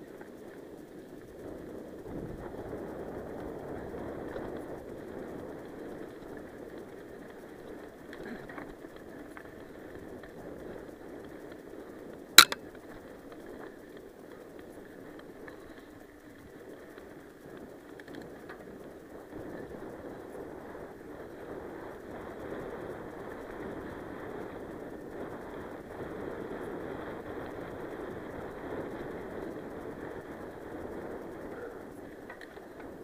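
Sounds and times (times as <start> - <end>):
bike tyres on dirt trail: 0.0 - 33.0.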